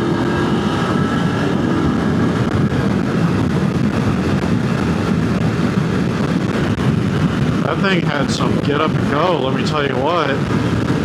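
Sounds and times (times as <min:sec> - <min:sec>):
motorcycle engine: 0:00.0 - 0:11.0
wind rushing over microphone: 0:00.0 - 0:11.0.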